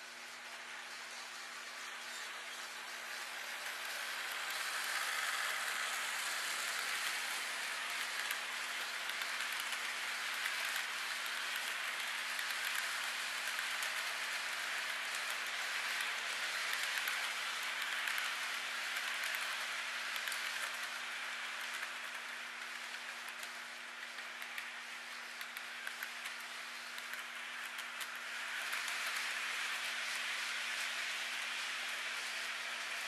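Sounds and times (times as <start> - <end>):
model train wheels clattering: 0.0 - 33.0.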